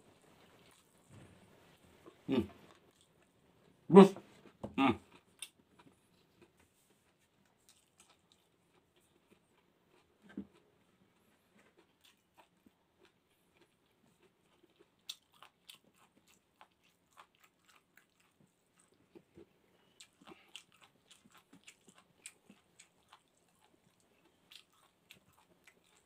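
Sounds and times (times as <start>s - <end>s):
faint chewing: 0.0s - 26.0s.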